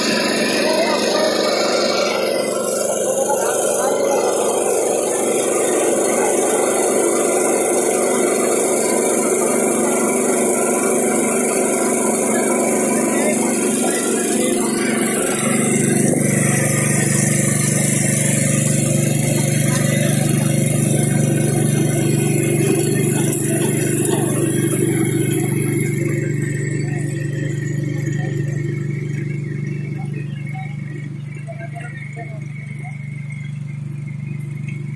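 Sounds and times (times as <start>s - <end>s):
power tiller engine running: 0.0s - 34.9s
rotor churning dry soil: 0.0s - 34.9s.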